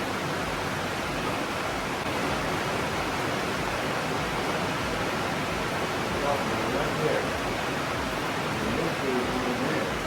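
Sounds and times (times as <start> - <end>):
rain on a tin roof: 0.0 - 10.0.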